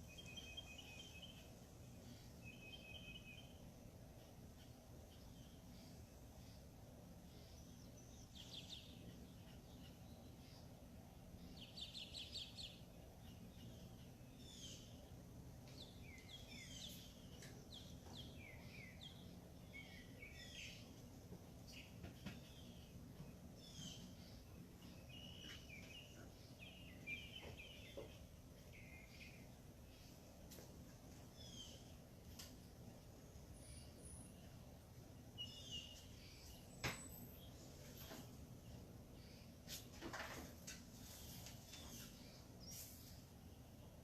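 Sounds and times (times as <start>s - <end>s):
birds chirping: 0.0s - 44.0s
low steady background hum: 0.0s - 44.0s.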